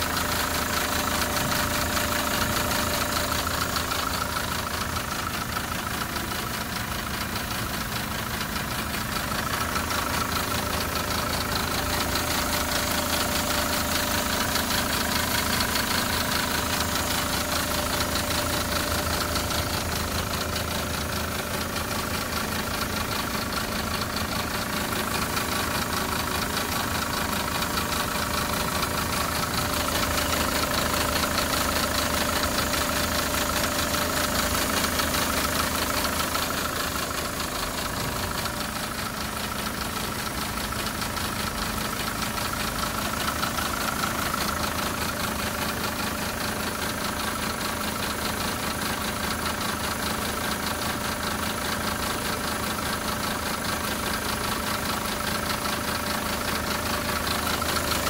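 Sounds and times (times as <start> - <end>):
diesel engine idling: 0.0 - 58.0
rapid engine knocking: 0.0 - 58.0.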